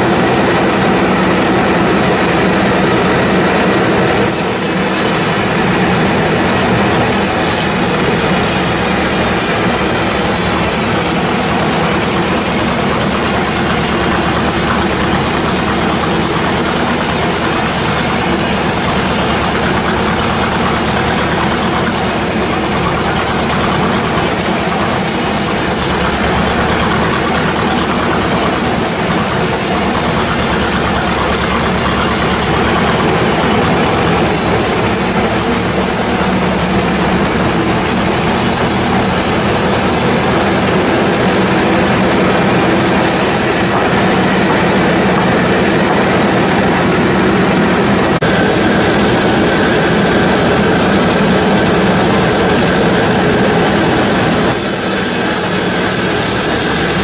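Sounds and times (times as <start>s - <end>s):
engine hum: 0.0s - 57.0s
sawmill machinery din: 0.0s - 57.0s.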